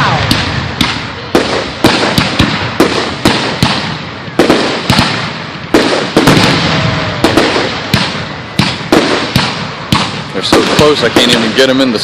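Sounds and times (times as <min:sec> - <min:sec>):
fireworks bursting with crackle: 0:00.0 - 0:12.0.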